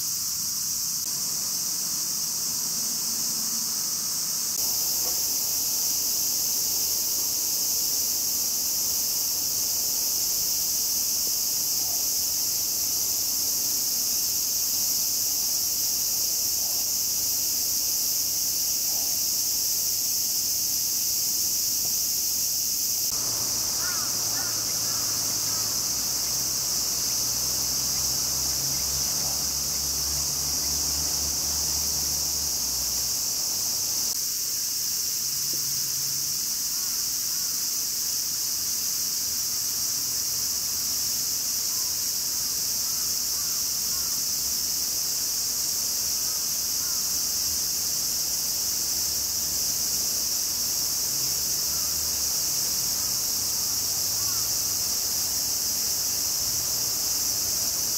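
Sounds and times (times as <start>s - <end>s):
insects shrilling chorus: 0.0s - 34.8s, 40.7s - 57.9s.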